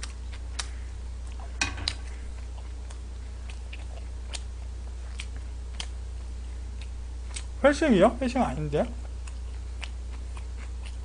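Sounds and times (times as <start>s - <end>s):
person chewing noodles: 0.0s - 7.6s, 9.0s - 11.0s
steady low hum: 0.0s - 11.0s.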